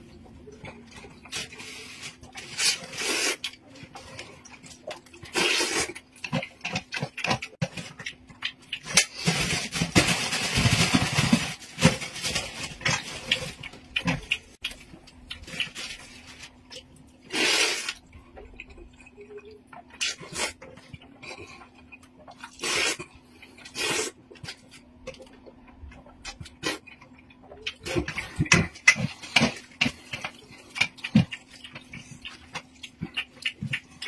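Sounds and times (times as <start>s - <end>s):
noisy chewing: 0.4s - 34.0s.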